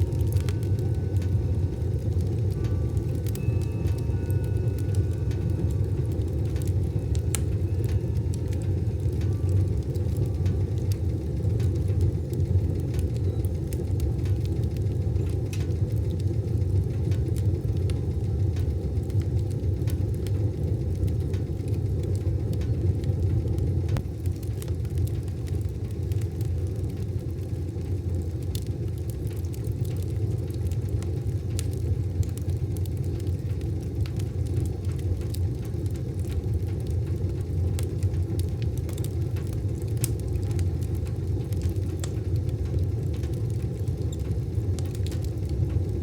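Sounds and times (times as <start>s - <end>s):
fire crackling and popping: 0.0s - 46.0s
wood fire low rumble: 0.0s - 46.0s.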